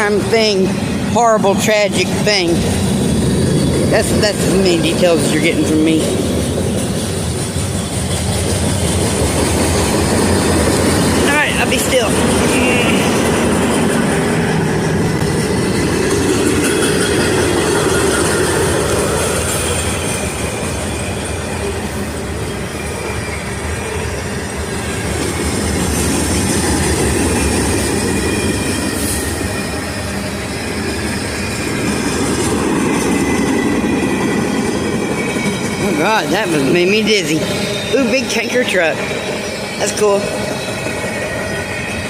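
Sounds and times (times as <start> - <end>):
train wheels rumbling on rails: 0.0 - 42.0
train wheels squealing: 0.8 - 42.0.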